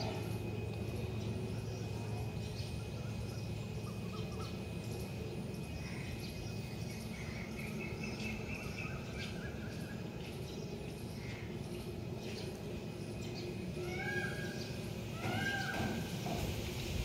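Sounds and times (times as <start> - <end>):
birds chirping faintly: 0.0 - 16.4
steady low background hum: 0.0 - 17.0.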